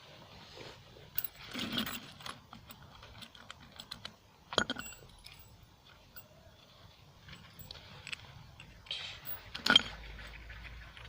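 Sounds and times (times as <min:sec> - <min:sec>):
small metal objects clattering: 0:01.1 - 0:06.3, 0:07.2 - 0:11.0.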